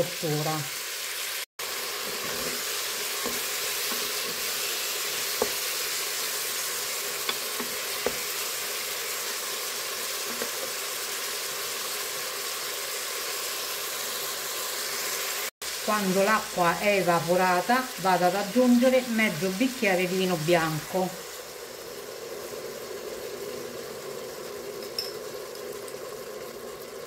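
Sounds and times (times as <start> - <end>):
food sizzling in a pot: 0.0 - 27.0.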